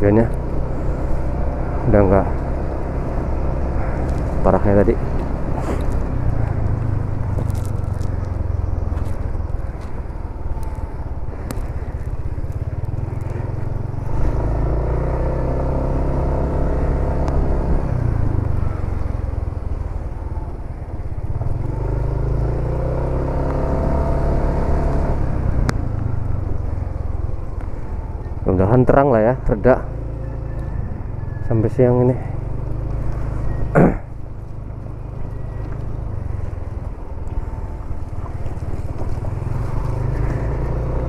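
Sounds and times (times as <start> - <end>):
motorcycle engine rumble: 0.0 - 41.0.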